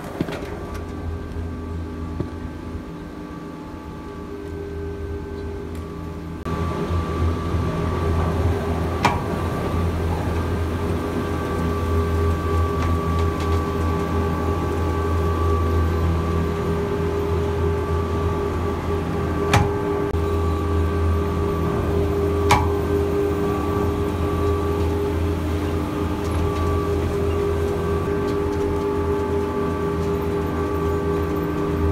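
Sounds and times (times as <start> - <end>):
gondola machinery hum and whine: 0.0 - 31.9.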